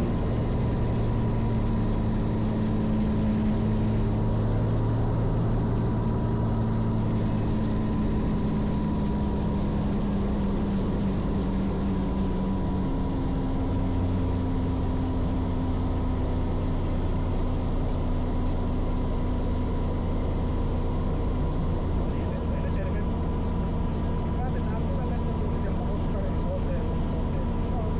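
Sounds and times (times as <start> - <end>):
helicopter engine and rotor drone: 0.0 - 27.9.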